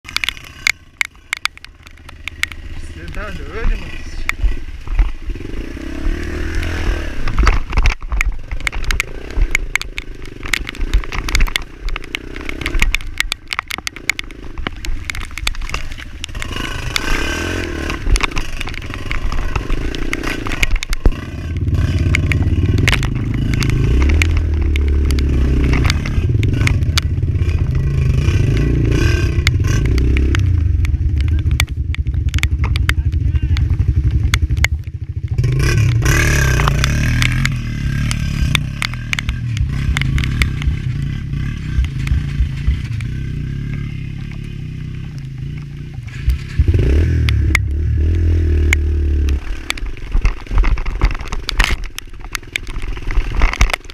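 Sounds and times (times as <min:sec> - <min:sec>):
stones knocking and scraping: 0:00.0 - 0:53.9
dirt bike engine revving: 0:00.2 - 0:51.8.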